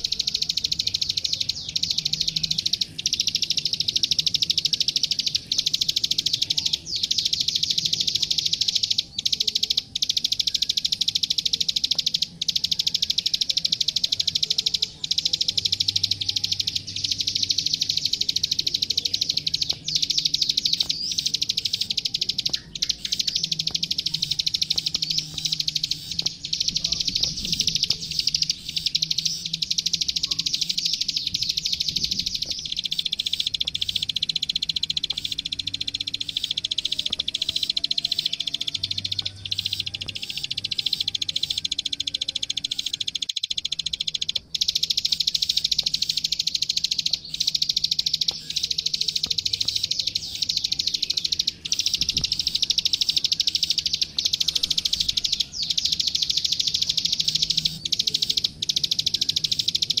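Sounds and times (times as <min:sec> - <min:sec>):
bird singing fast clicking trill: 0:00.0 - 1:00.0.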